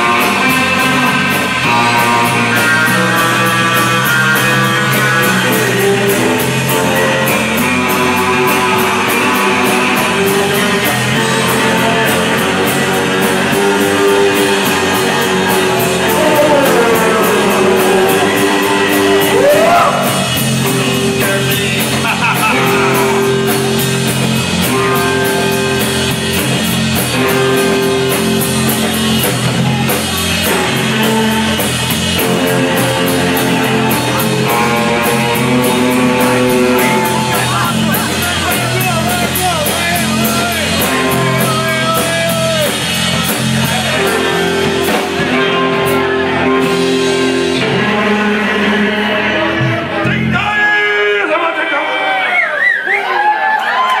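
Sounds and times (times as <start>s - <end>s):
guitar slides: 0.0s - 50.3s
electric guitars: 0.0s - 51.2s
drums: 0.0s - 51.4s.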